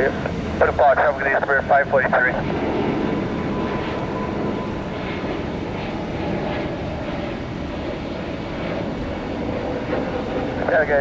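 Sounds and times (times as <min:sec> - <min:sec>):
jet airliner engines running: 0:00.0 - 0:11.0.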